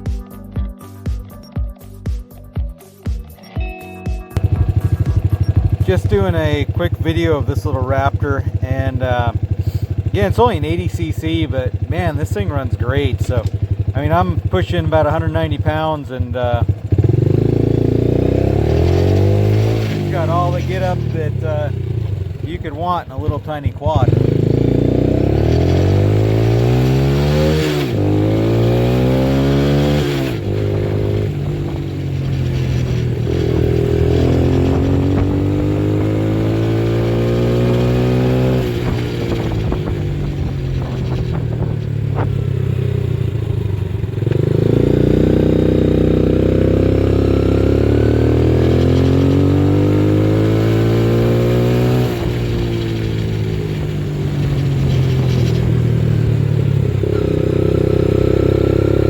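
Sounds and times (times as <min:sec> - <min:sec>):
quad bike engine revving: 0:04.4 - 0:59.0.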